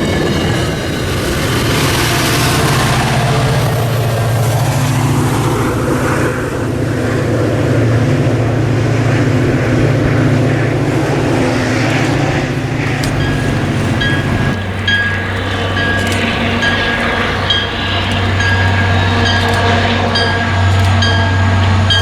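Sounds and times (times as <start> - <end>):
diesel locomotive drone: 0.0 - 22.0.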